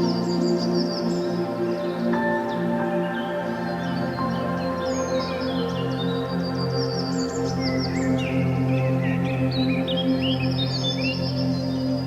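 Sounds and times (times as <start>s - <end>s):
ambient new-age music: 0.0s - 12.0s.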